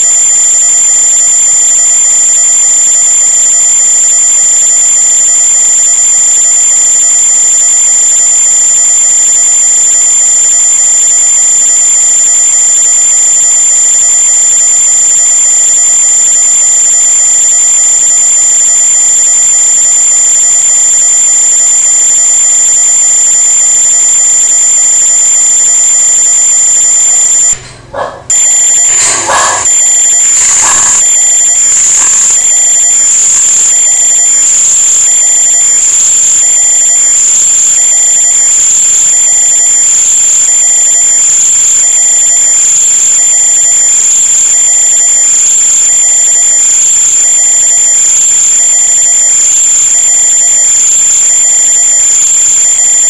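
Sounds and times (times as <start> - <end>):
high-pitched electronic whine: 0.0 - 27.7, 28.3 - 53.0.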